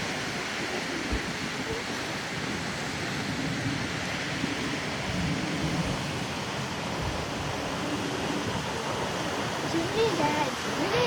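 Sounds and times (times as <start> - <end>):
strong wind on microphone: 0.0 - 11.0.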